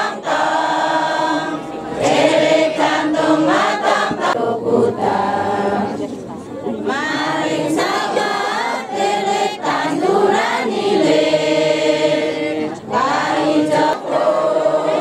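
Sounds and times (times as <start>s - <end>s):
women singing chant: 0.0s - 15.0s.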